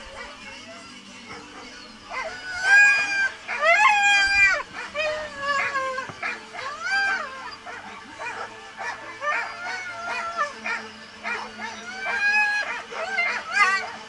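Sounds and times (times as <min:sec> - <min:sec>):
dog whining and yipping: 0:01.3 - 0:14.0.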